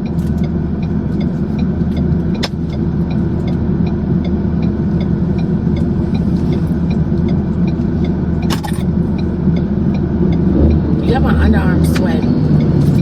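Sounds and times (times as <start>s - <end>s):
road and engine rumble: 0.0s - 13.0s
turn signal ticking: 0.0s - 13.0s.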